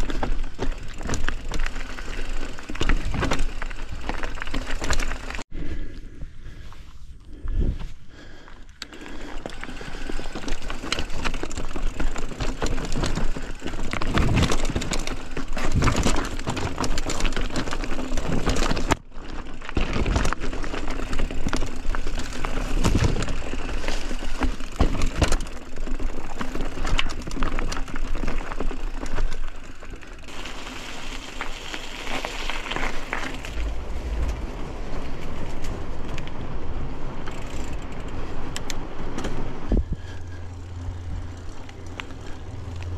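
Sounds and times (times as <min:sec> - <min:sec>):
mountain bike rattling on rough trail: 0:00.0 - 0:05.5, 0:08.2 - 0:42.9.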